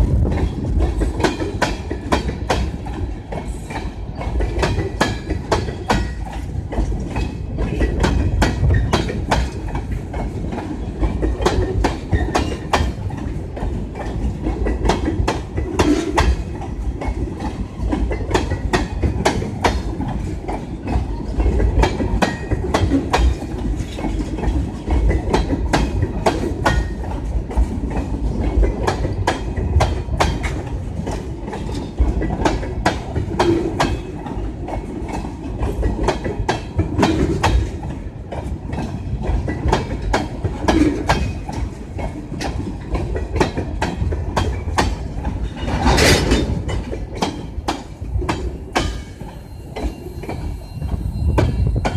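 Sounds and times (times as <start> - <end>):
train wheels rumbling on rail: 0.0 - 51.9
wheels clacking over rail joints: 0.0 - 51.9.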